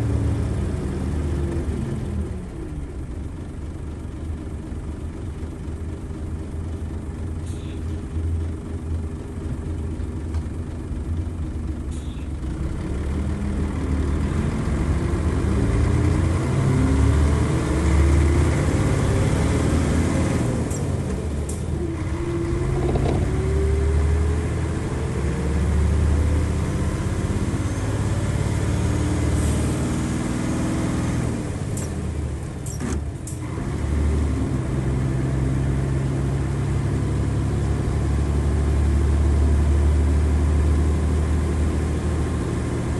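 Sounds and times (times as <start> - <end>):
diesel bus engine revving: 0.0 - 42.9.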